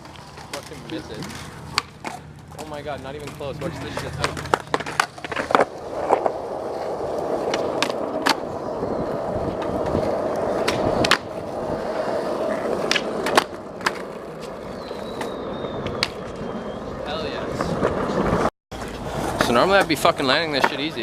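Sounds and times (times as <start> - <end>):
skateboard clacking on ground: 0.0 - 8.7, 9.4 - 16.5, 17.5 - 21.0
skateboard wheels rolling: 0.0 - 21.0.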